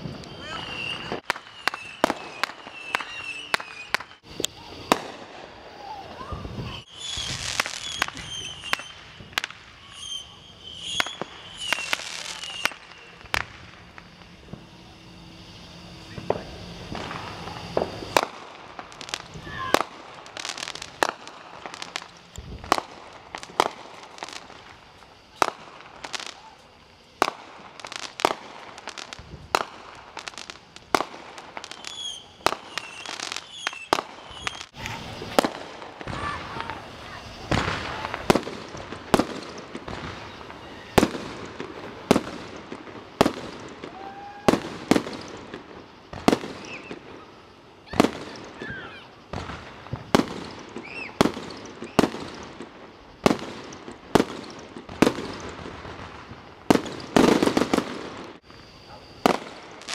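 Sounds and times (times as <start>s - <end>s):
fireworks bangs and pops: 0.0s - 14.7s, 16.1s - 59.9s
fireworks whistling: 0.0s - 59.9s.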